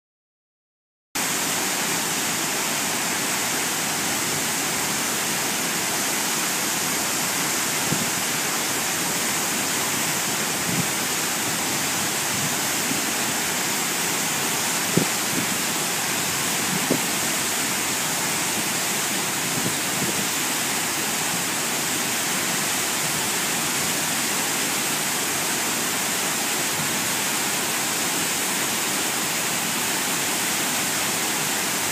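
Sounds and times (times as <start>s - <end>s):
waterfall roaring: 1.2s - 31.9s.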